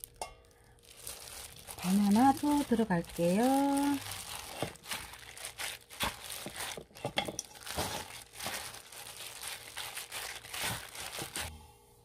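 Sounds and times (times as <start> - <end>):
plastic glove crinkling: 0.0 - 11.6
dough squishing: 0.7 - 11.6.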